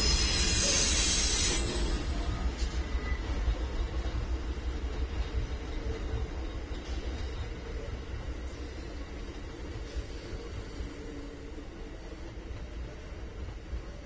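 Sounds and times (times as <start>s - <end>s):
rumble of train passing: 0.0s - 14.0s
train wheel squeal: 0.0s - 14.0s.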